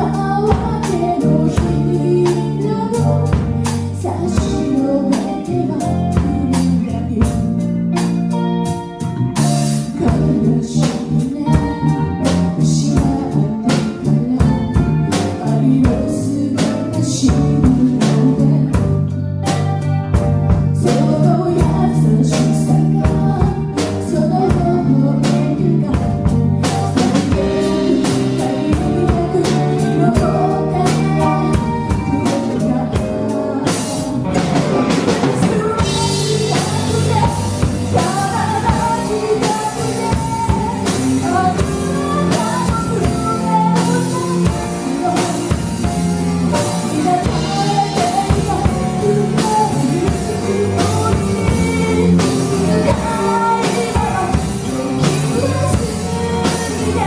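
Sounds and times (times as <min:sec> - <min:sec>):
bass: 0:00.0 - 0:57.0
drum kit: 0:00.0 - 0:57.0
electric guitar: 0:00.0 - 0:57.0
keyboard: 0:00.0 - 0:57.0
woman singing into a microphone: 0:00.0 - 0:57.0.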